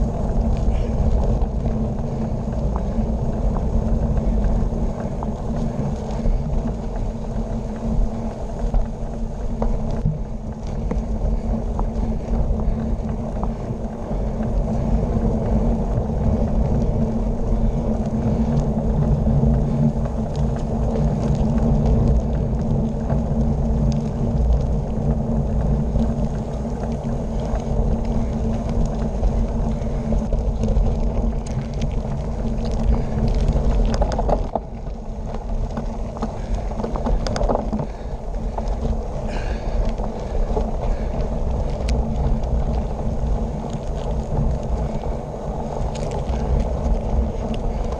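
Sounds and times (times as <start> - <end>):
bicycle tyres rolling on gravel: 0.0 - 47.9
grit ticking: 0.0 - 47.9
wind buffeting microphone: 0.0 - 47.9.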